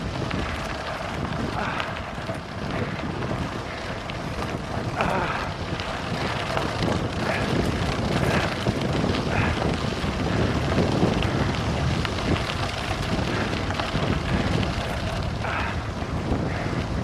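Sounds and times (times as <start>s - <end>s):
tyres crunching over gravel: 0.0s - 16.4s
wind buffeting microphone: 0.0s - 17.0s.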